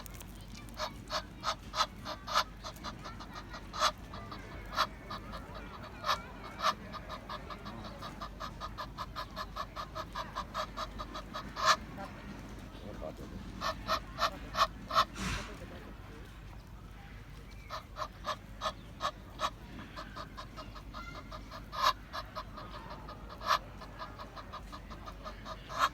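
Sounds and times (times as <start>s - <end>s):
goose honking: 0.0s - 12.2s, 13.5s - 15.3s, 17.7s - 25.9s.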